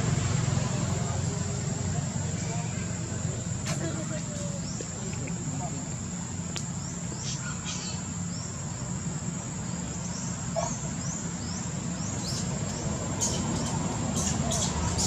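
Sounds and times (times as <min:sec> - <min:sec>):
birds chirping: 0:00.0 - 0:15.0
high insect whine: 0:00.0 - 0:15.0.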